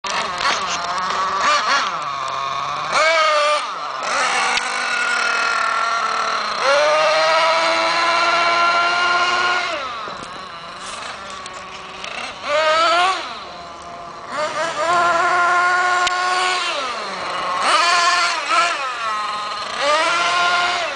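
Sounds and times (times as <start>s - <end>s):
rc truck nitro engine revving: 0.1s - 20.9s.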